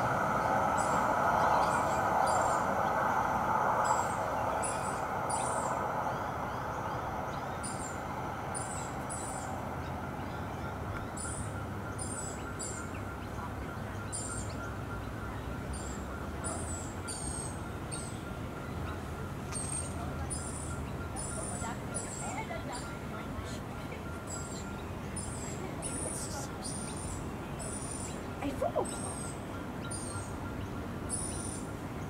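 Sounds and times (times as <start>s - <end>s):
distant traffic rumble: 0.0s - 32.0s
tram passing: 0.0s - 32.0s.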